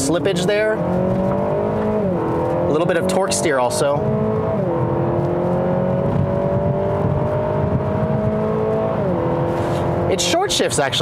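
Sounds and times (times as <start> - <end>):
car engine revving in cabin: 0.0 - 11.0.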